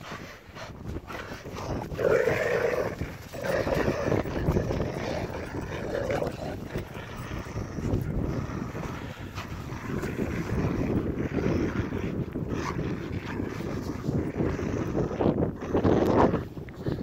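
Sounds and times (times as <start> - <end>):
dogs play-growling: 0.0 - 17.0.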